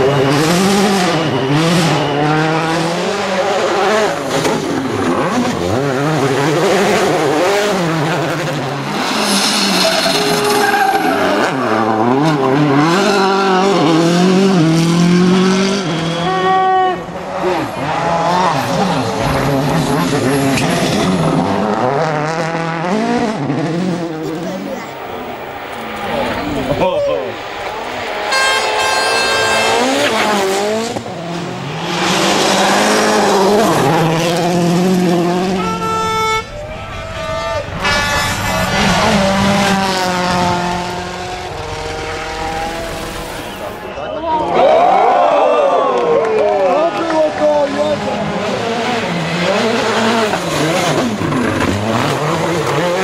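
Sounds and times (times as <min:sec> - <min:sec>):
rally car engine revving: 0:00.0 - 0:44.0, 0:46.7 - 0:53.0.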